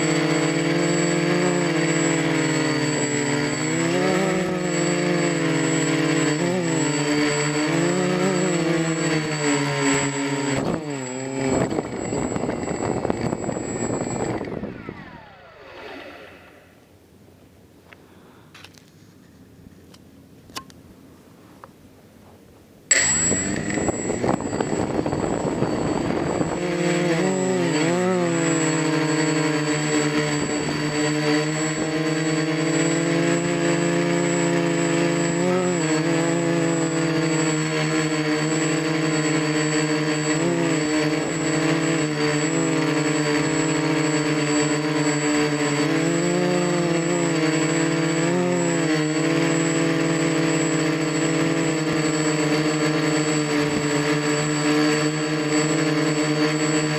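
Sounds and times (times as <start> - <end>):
quadcopter motors buzzing drone: 0.0 - 20.8, 22.9 - 56.9.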